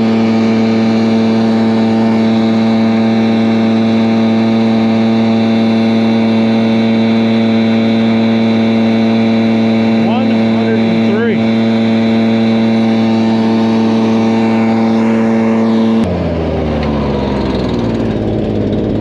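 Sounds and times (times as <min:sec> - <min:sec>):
leaf blower running: 0:00.0 - 0:19.0.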